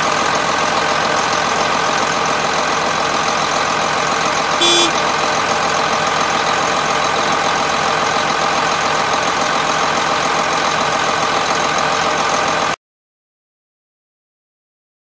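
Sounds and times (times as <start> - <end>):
diesel engine running steadily: 0.0 - 12.8.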